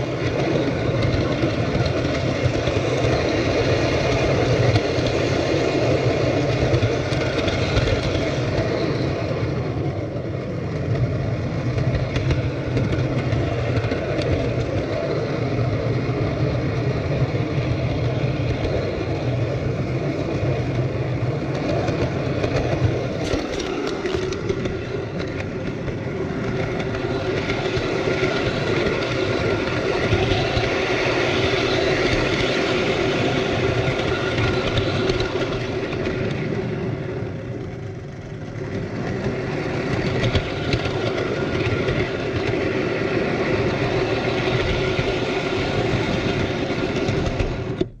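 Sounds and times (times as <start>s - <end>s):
model train running on track: 0.0s - 48.0s.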